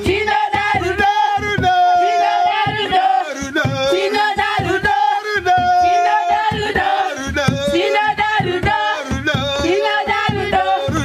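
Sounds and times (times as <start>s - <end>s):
voices singing together: 0.0s - 11.0s
wooden hand drum beating: 0.0s - 11.0s.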